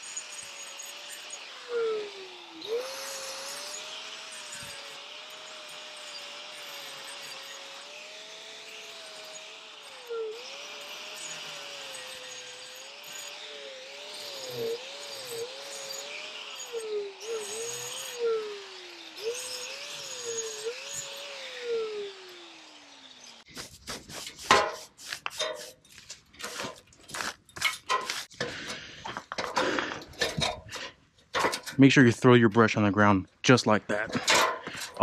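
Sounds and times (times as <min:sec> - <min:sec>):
angle grinder grinding brick mortar: 0:00.0 - 0:31.6.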